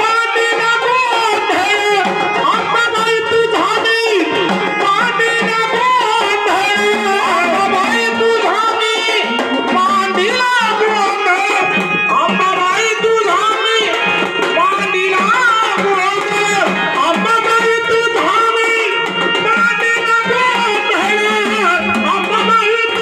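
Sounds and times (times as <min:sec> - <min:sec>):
hand drum rhythm: 0:00.0 - 0:23.0
pitch-bending melodic line: 0:00.7 - 0:23.0.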